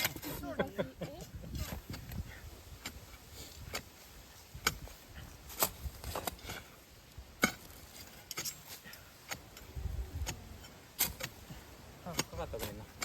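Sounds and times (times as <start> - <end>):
hoe chopping hard ground: 0.0 - 13.0.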